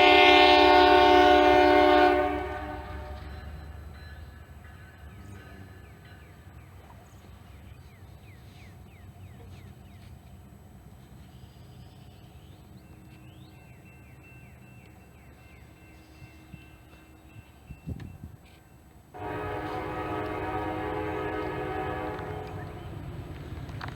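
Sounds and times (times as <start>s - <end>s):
train rumbling: 0.0s - 23.9s.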